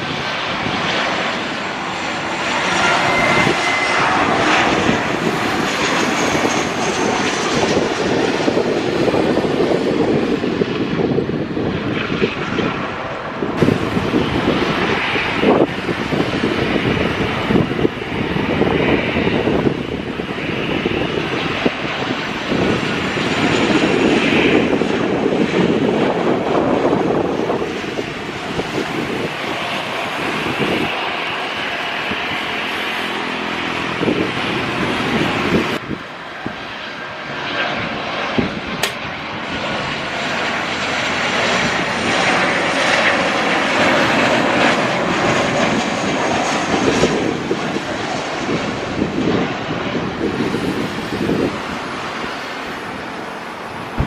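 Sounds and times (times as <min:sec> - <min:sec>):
airliner engines roaring: 0:00.0 - 0:54.0.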